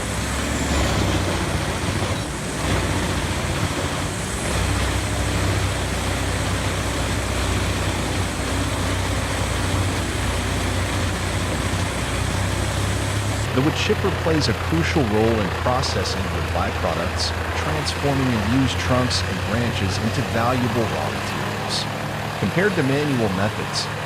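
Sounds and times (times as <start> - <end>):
wood being shredded: 0.0 - 24.0
wood chipper engine drone: 0.0 - 24.0.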